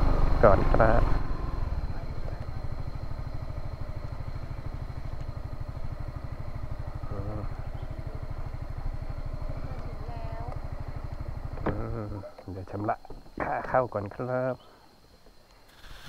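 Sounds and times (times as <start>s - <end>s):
scooter engine running slowly: 0.0s - 12.6s, 15.7s - 16.0s.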